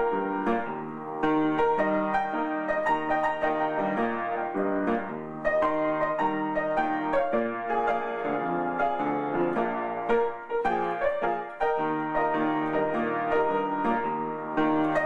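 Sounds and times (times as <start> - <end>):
solo piano ballad: 0.0 - 15.0.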